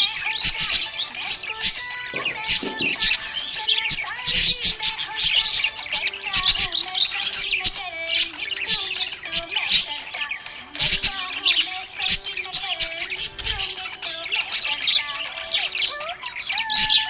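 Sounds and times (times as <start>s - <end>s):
parrots chirping and squawking: 0.0s - 17.0s.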